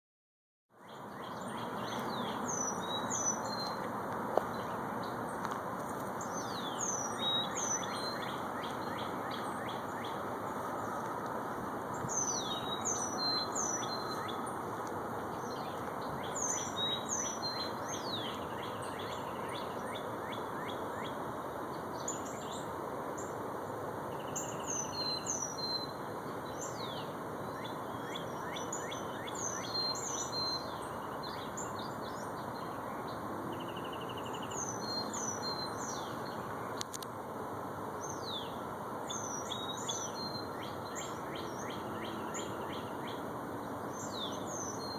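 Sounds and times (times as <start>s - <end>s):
birds chirping and singing: 0.8s - 3.9s, 4.5s - 14.7s, 15.3s - 23.4s, 24.1s - 36.5s, 38.0s - 44.9s
steady background noise: 0.8s - 44.9s.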